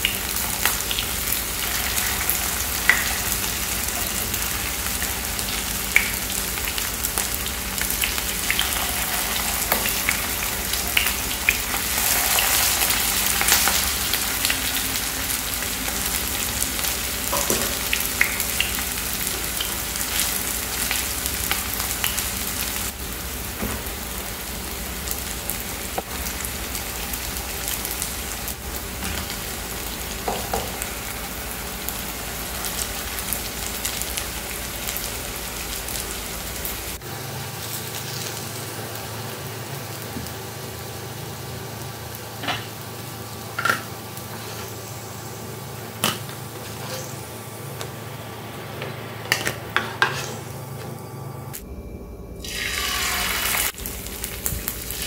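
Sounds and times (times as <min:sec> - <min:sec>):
food sizzling in oil: 0:00.0 - 0:48.3, 0:52.4 - 0:55.0.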